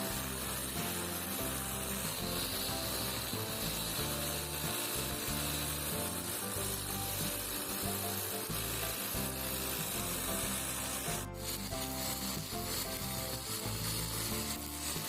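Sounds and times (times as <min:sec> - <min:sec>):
background music: 0:00.0 - 0:15.0
brush cutter cutting grass: 0:00.0 - 0:15.0.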